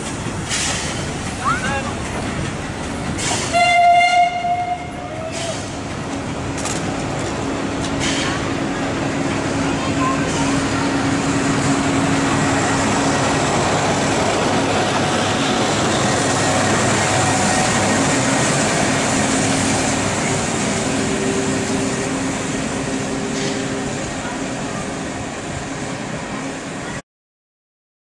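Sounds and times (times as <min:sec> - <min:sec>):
train coaches rolling on rails: 0:00.0 - 0:27.0.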